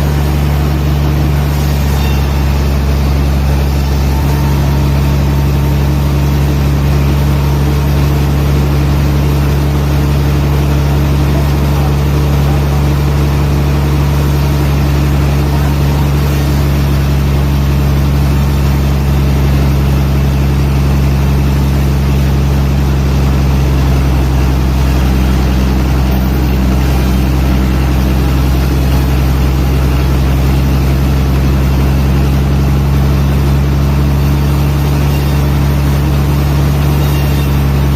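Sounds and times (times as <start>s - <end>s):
machine engine droning: 0.0s - 37.9s.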